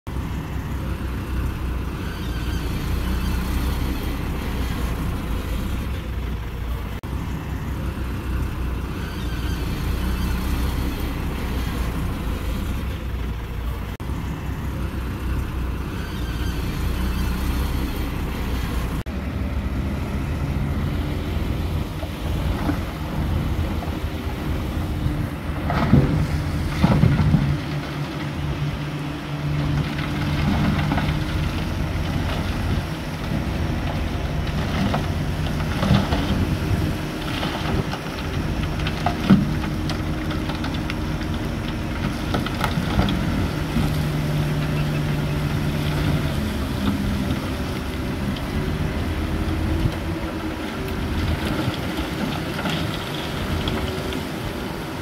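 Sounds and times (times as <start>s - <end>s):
heavy machinery diesel engines rumbling: 0.1s - 55.0s.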